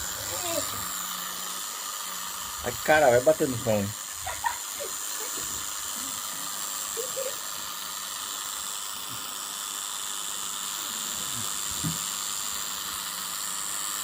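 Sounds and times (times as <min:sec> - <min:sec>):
toy airplane motor whirring: 0:00.0 - 0:14.0.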